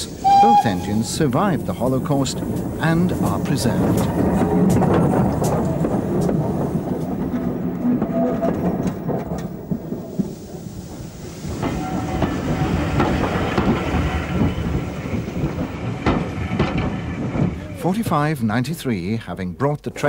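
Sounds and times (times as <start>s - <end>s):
train rumbling: 0.0s - 19.6s
wheels clicking over rail joints: 0.2s - 18.3s.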